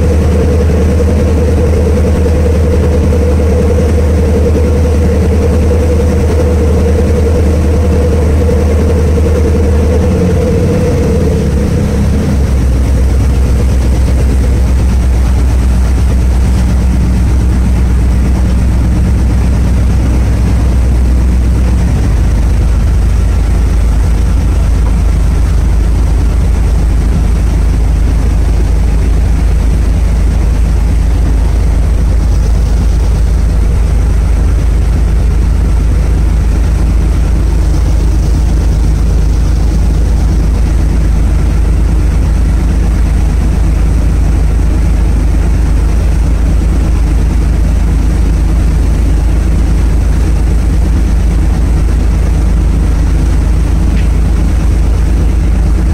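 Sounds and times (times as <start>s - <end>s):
ferry engine droning: 0.0s - 55.9s
water rushing: 0.0s - 55.9s
wind: 0.0s - 55.9s.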